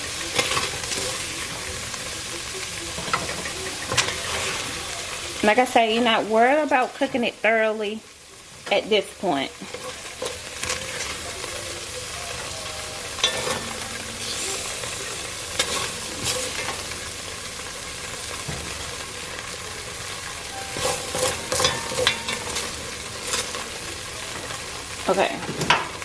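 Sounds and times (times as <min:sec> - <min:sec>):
beef sizzling in hot oil: 0:00.0 - 0:26.0.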